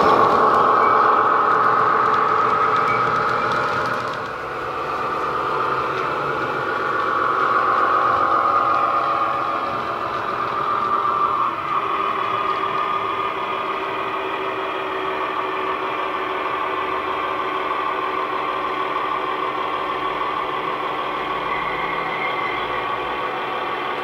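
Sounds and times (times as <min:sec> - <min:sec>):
model train diesel engine sound: 0:00.0 - 0:24.0.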